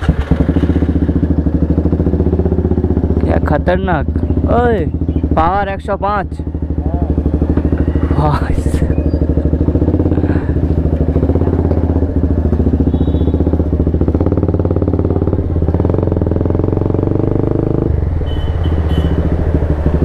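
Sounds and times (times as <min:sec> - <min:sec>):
single-cylinder motorcycle engine: 0:00.0 - 0:20.0.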